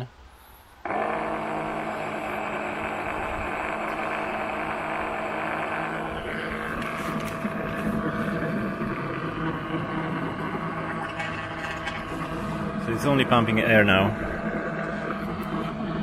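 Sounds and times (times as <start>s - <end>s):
electric oil pump running: 0.8s - 16.0s.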